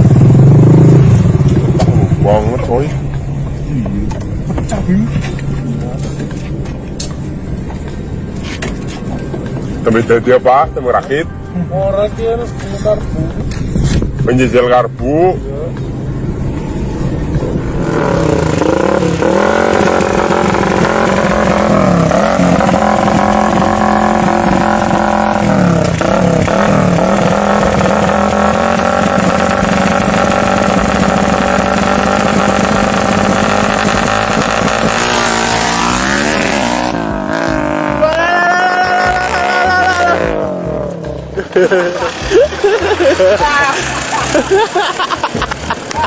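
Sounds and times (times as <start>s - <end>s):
motorcycle engine revving: 0.0s - 10.9s, 13.3s - 46.0s.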